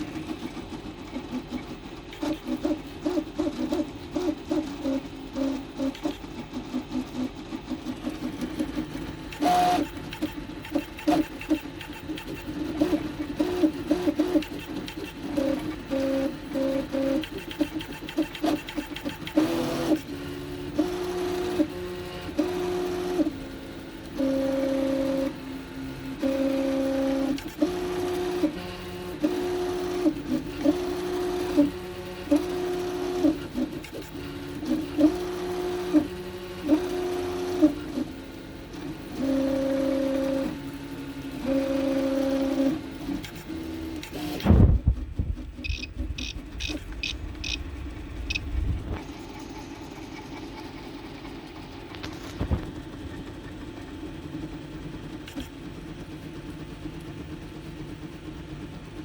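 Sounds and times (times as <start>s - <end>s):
stepper motors humming: 0.0s - 59.0s.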